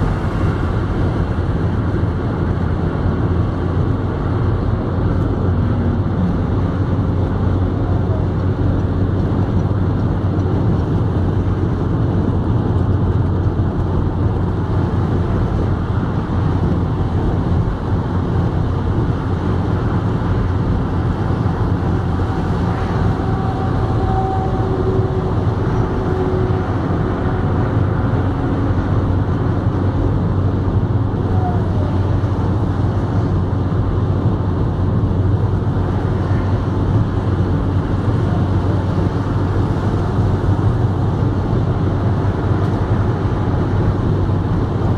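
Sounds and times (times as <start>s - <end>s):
car cabin road drone: 0.0s - 44.9s.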